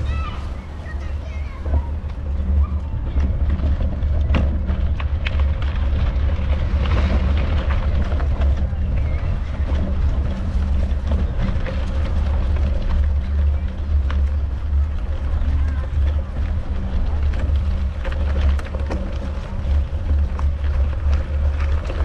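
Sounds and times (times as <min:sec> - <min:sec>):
bicycle rattles and clicks: 0:00.0 - 0:22.0
bicycle rolling on path: 0:00.0 - 0:22.0.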